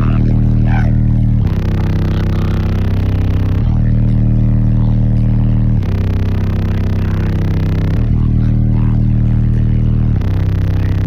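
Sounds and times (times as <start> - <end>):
loud bass-heavy music from car subwoofers: 0.0 - 11.0.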